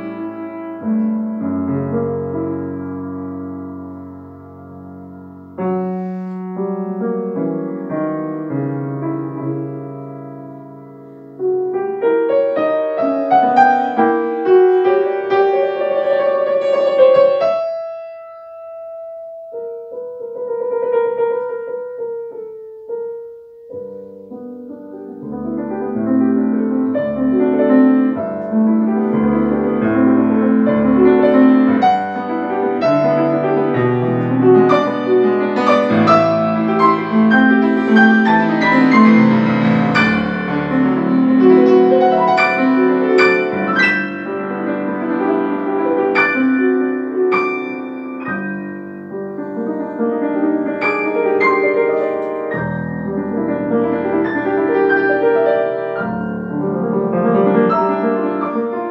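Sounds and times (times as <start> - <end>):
solo grand piano: 0.0 - 58.9.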